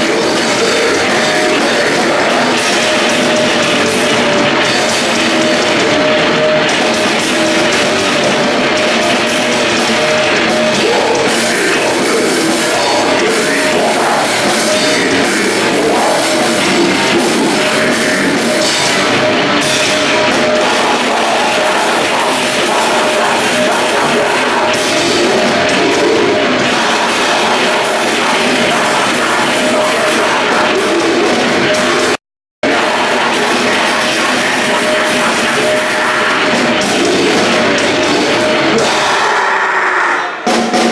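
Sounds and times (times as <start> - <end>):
band playing grindcore: 0.0 - 40.9.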